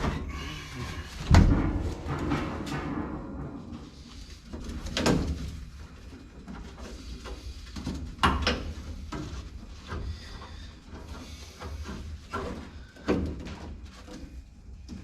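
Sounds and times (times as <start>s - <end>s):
metal parts clunking and rattling: 0.0s - 15.0s.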